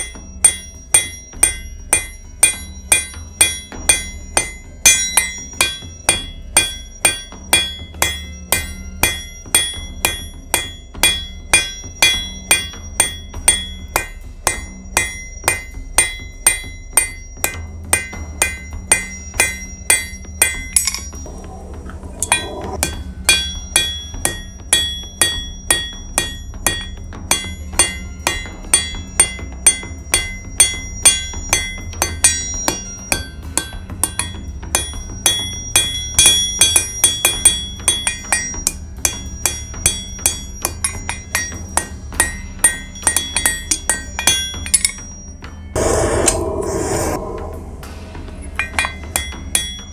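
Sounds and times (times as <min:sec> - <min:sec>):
hammer striking metal on anvil: 0:00.0 - 0:49.9.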